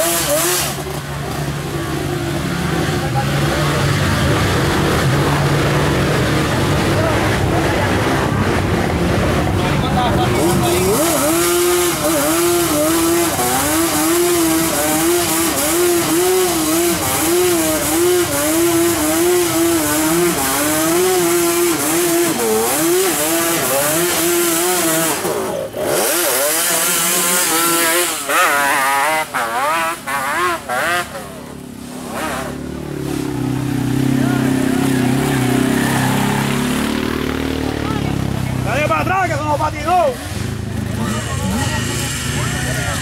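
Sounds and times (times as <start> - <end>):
quad bike engine revving hard: 0.0 - 43.0
quad bike engines running: 0.0 - 43.0.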